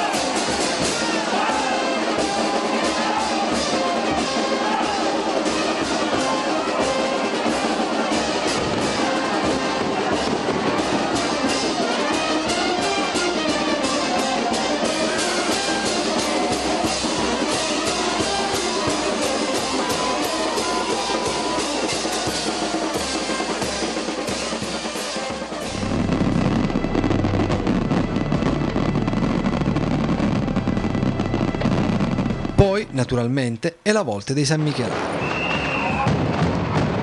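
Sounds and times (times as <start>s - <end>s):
brass band playing a march: 0.0s - 32.8s
drum beating: 0.0s - 33.4s, 35.4s - 37.0s
fireworks rumbling: 0.0s - 33.5s, 34.6s - 37.0s.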